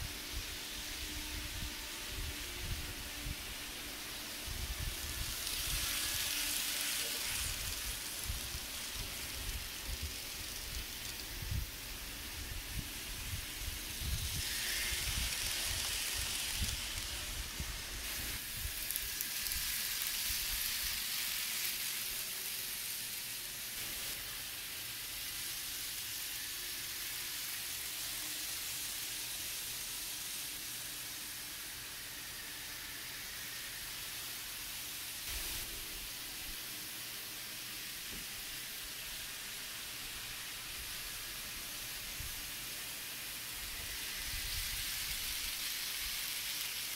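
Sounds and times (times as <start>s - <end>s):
model trains whirring on track: 0.0s - 46.9s.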